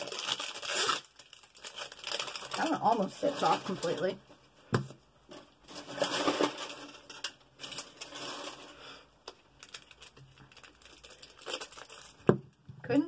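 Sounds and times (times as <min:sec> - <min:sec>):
plastic crinkling: 0:00.0 - 0:04.2, 0:05.3 - 0:12.6.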